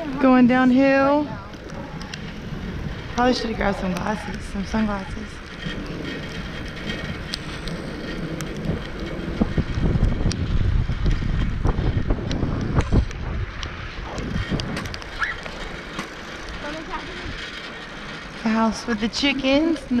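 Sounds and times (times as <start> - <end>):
small clicks and rattles: 0.0 - 20.0
wind buffeting microphone: 0.0 - 20.0.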